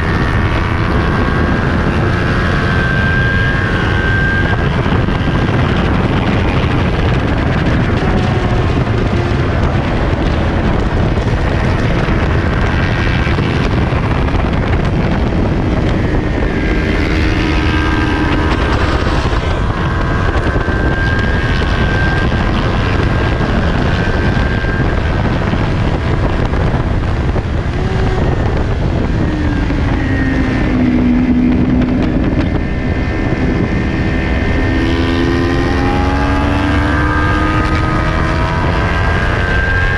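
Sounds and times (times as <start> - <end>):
motorcycle engine revving: 0.0 - 39.9
wind rushing on microphone: 0.0 - 39.9.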